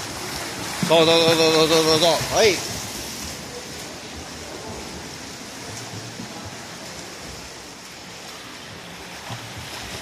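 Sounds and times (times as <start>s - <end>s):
pool water splashing: 0.0s - 10.0s.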